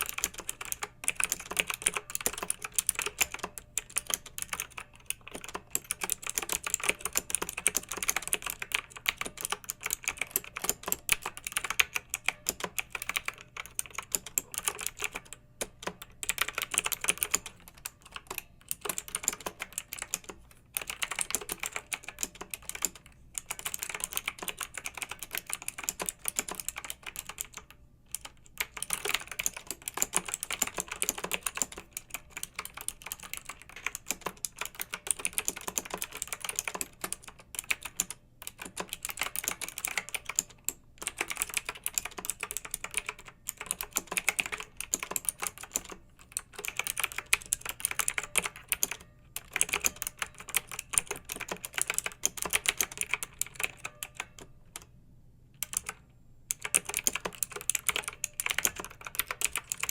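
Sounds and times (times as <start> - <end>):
mechanical keyboard typing: 0.0 - 54.9, 55.6 - 59.9.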